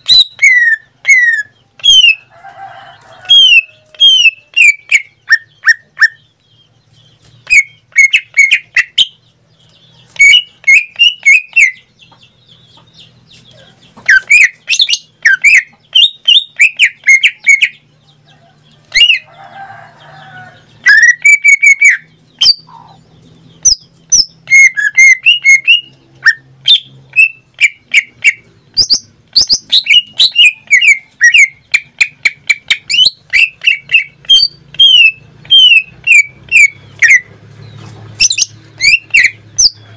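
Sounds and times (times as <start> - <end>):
bird whistling song: 0.0 - 2.3, 3.3 - 6.4, 7.4 - 9.2, 10.0 - 17.8, 18.9 - 19.3, 20.6 - 23.0, 23.6 - 37.3, 38.2 - 39.9.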